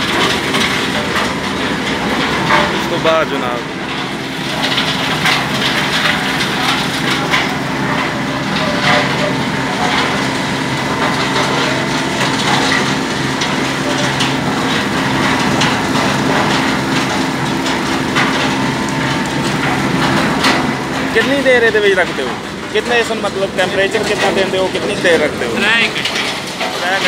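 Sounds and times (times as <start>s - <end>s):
machinery droning: 0.0s - 27.0s.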